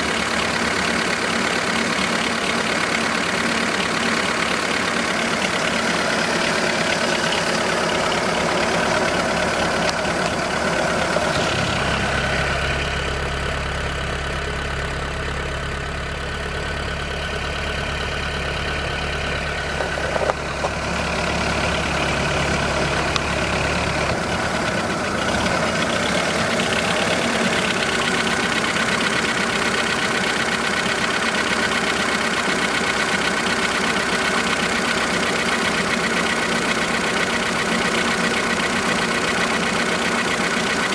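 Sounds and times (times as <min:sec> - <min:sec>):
car engine idling with clicking: 0:00.0 - 0:40.9.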